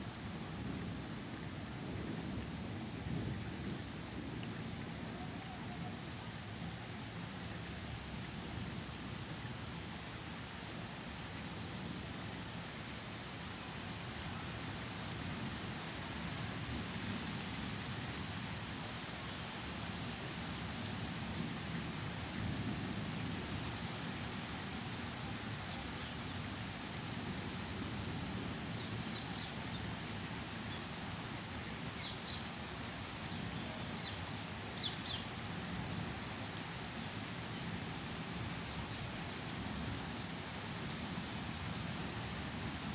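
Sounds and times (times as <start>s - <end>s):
rain falling on foliage: 0.0s - 42.9s.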